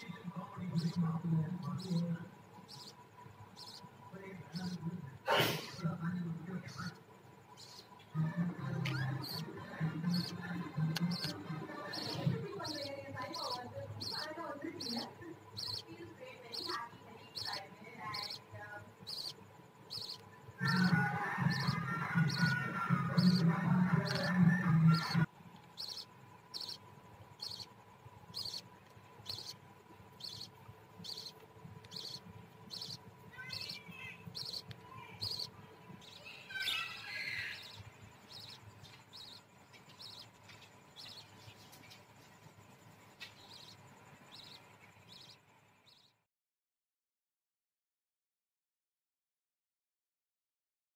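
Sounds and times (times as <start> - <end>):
budgerigar chicks cheeping: 0.0 - 42.0, 43.0 - 46.1
budgie chirping: 0.7 - 4.8, 6.6 - 8.0, 8.6 - 42.0, 43.2 - 46.1.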